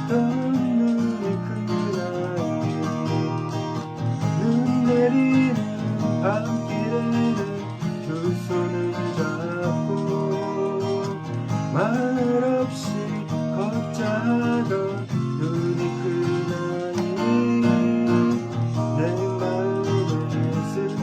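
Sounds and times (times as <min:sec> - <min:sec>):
acoustic guitar strummed: 0:00.0 - 0:21.0
person singing: 0:00.0 - 0:21.0.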